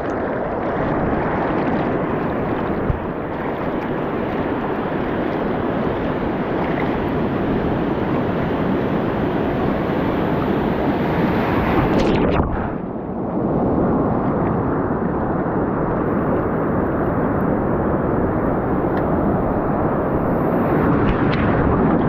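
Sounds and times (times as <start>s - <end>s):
sea surf rushing: 0.0s - 22.0s
wind rumbling on microphone: 0.0s - 22.0s.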